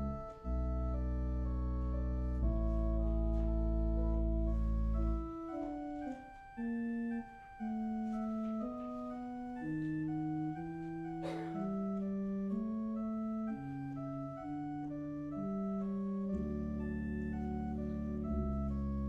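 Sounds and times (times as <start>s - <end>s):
church organ playing: 0.0s - 19.0s.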